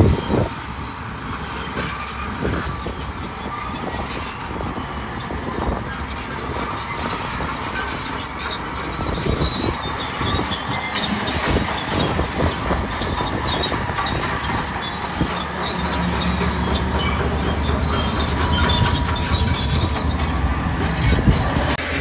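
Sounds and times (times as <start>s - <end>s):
diesel engine running: 0.0s - 22.0s
steel tracks clattering and squealing: 0.0s - 22.0s.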